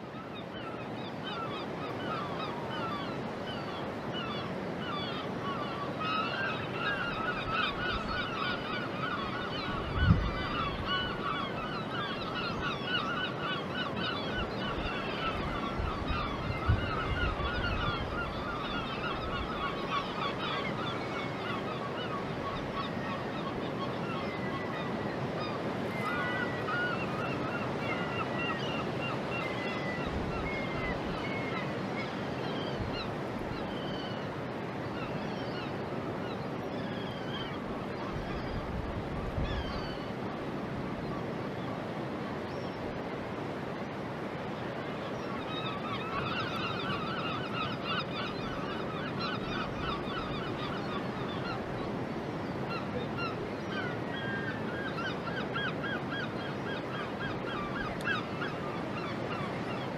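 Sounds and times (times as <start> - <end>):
birds honking and squawking: 0.1 - 41.6, 44.0 - 59.9.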